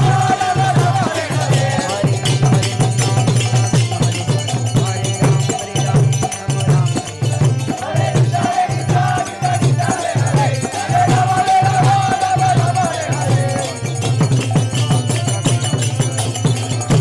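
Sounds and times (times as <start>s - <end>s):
chanted melody: 0.0s - 17.0s
jingling percussion: 0.0s - 17.0s.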